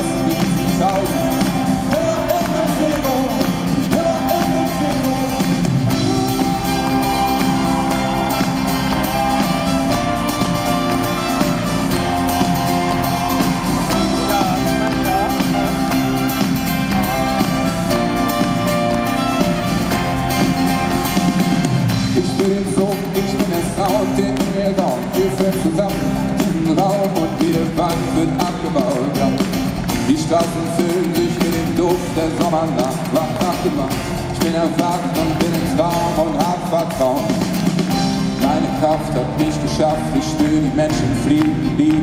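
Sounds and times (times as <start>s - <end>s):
acoustic band playing: 0.0s - 42.0s.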